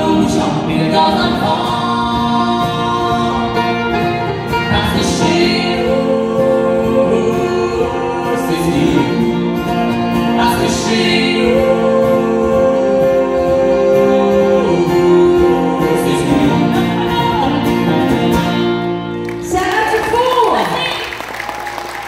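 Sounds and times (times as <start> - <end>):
strummed acoustic guitar: 0.0 - 19.5.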